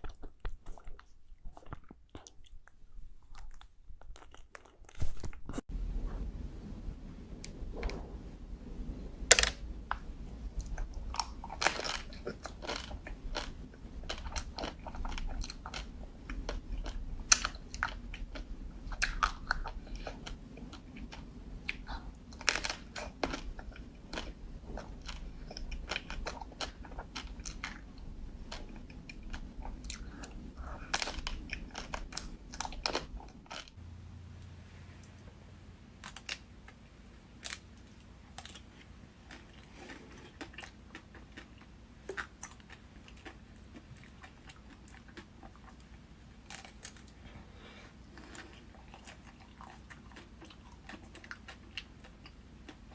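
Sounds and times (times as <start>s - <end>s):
crunching and chewing ice cream: 0.0s - 5.5s, 9.3s - 33.8s, 36.0s - 52.9s.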